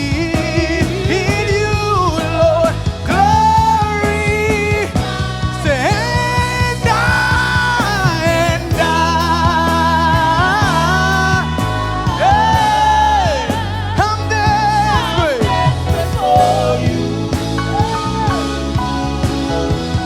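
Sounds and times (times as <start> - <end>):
gospel band playing: 0.0 - 20.0
steady drum beat: 0.0 - 20.0.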